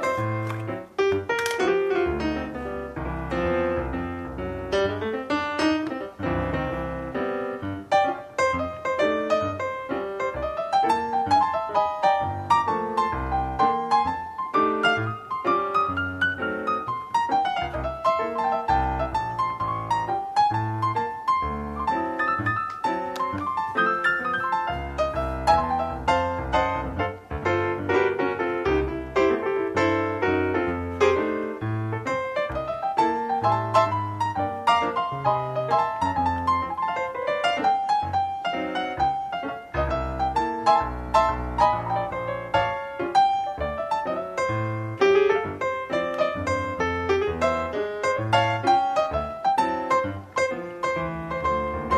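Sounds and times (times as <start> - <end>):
piano music: 0.0 - 51.9.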